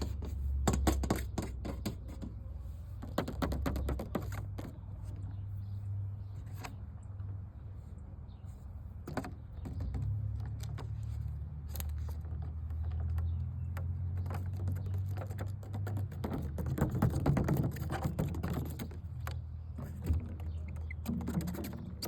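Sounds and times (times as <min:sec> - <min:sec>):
tapping and scratching on object: 0:00.0 - 0:05.5, 0:09.0 - 0:22.0.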